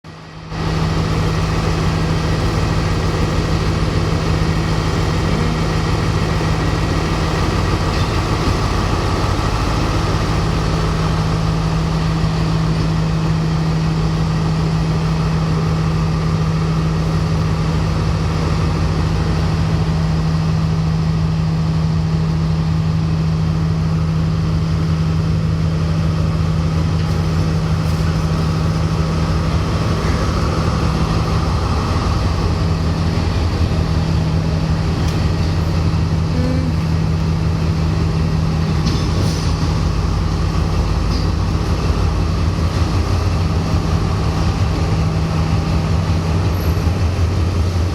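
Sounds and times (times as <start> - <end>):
diesel train engine running: 0.0 - 47.9.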